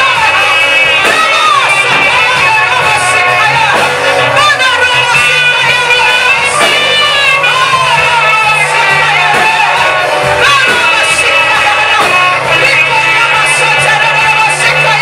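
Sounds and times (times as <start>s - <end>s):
band accompaniment: 0.0s - 15.0s
people singing worship song: 0.0s - 15.0s.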